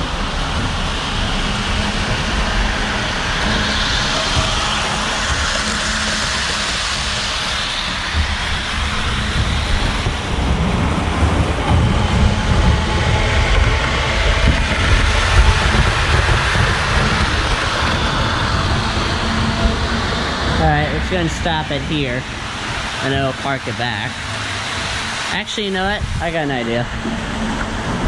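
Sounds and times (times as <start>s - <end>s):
model train rumbling on track: 0.0s - 28.0s.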